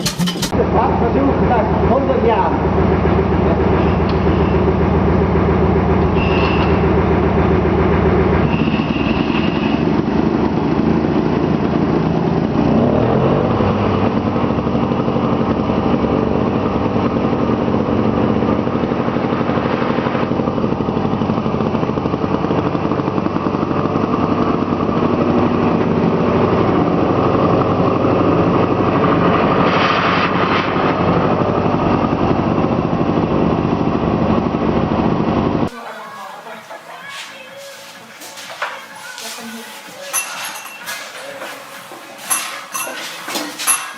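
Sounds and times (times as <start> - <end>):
old diesel engine running: 0.0 - 43.9.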